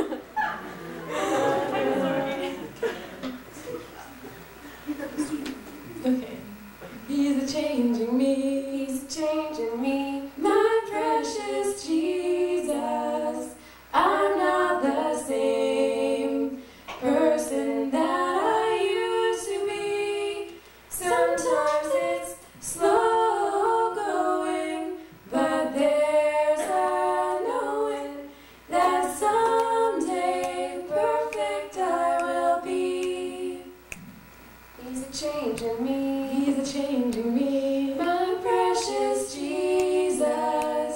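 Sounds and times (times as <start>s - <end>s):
two women singing a cappella: 6.6s - 33.9s, 34.7s - 40.9s.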